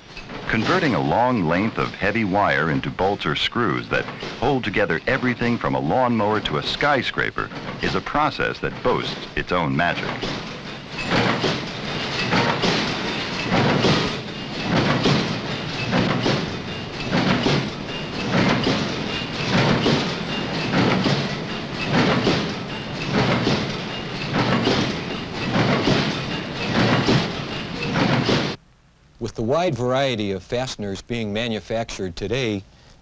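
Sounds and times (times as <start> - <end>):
machinery rhythmic clatter: 0.0 - 28.6.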